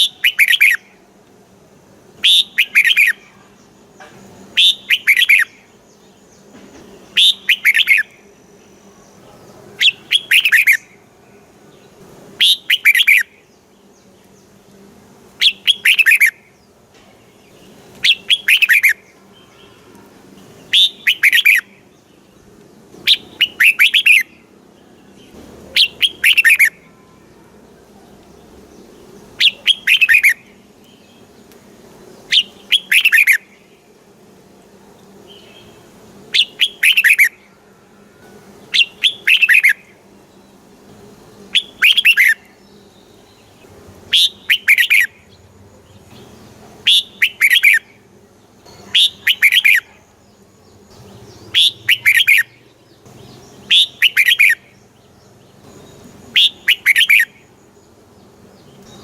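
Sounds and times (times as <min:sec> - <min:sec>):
bird song: 0:00.0 - 0:01.0, 0:02.2 - 0:34.1, 0:34.9 - 0:59.0.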